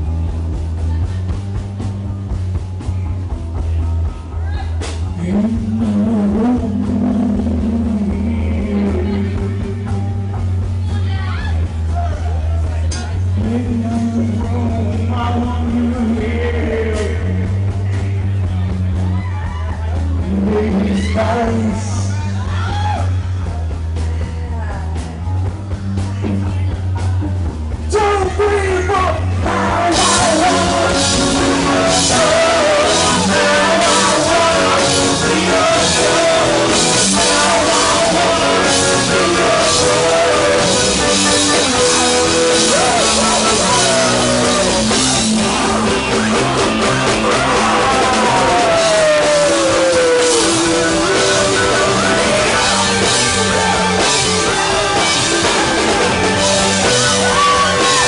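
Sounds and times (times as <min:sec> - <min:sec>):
loud rock music with singing: 0:00.0 - 0:58.0.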